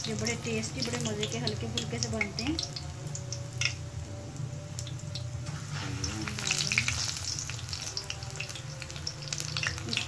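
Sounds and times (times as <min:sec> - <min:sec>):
crackles and pops of frying: 0:00.0 - 0:10.0
leaves deep-frying in oil: 0:00.0 - 0:10.0
low steady hum: 0:00.0 - 0:10.0.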